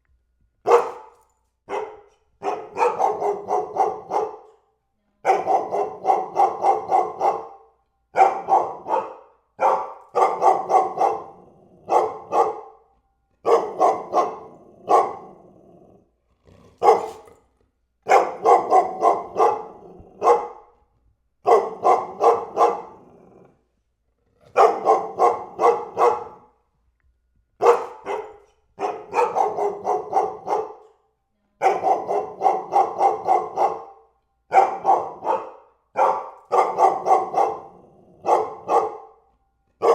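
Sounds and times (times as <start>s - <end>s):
dog barking: 0.6s - 15.6s, 16.8s - 17.4s, 18.0s - 20.8s, 21.4s - 23.4s, 24.5s - 26.6s, 27.6s - 39.9s.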